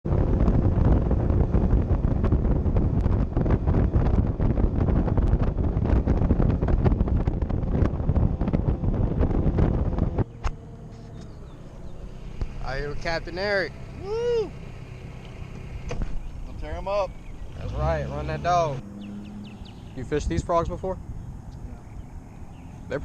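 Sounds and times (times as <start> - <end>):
boat engine rumble: 0.0 - 23.0
wind buffeting microphone: 0.0 - 23.0.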